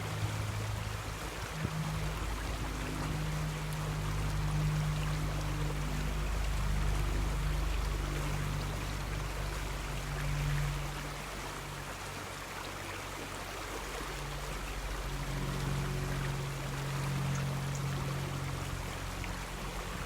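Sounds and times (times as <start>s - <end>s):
low hum: 0.0s - 20.0s
river water flowing over stones: 0.0s - 20.0s.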